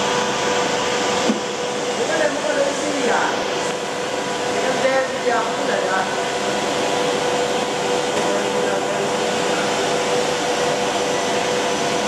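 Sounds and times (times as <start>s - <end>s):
machine blower whirring: 0.0s - 12.0s
steady mid-pitched hum: 0.0s - 12.0s.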